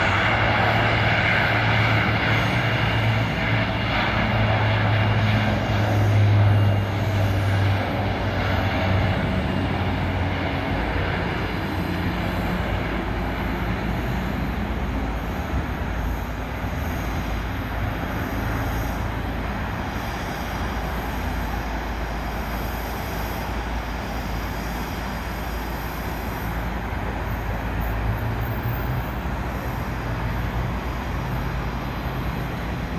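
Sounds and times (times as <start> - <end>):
turboprop airplane droning: 0.0 - 32.9.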